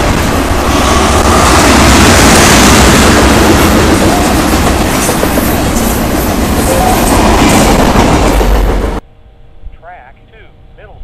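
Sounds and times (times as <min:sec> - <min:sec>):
freight train wheels rumbling: 0:00.0 - 0:10.4.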